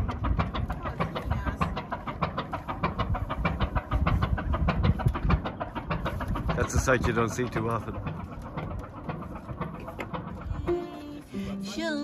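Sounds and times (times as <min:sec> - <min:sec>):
boat engine knocking: 0:00.0 - 0:12.0.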